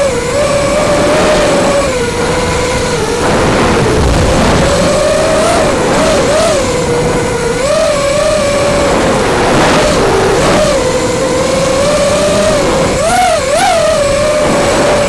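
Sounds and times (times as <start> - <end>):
quadcopter motors whining: 0.0 - 15.0
steady rush of noise: 0.0 - 15.0.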